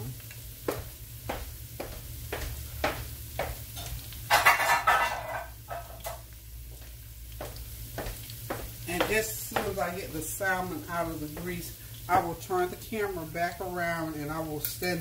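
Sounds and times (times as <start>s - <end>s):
patties sizzling in hot oil: 0.0s - 15.0s.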